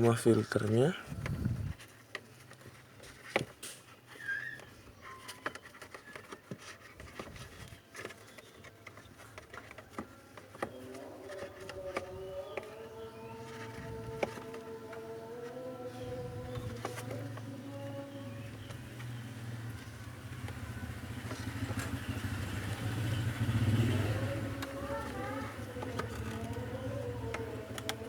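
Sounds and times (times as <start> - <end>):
plastic filter clicking and rustling: 1.2 - 22.8, 24.2 - 28.0.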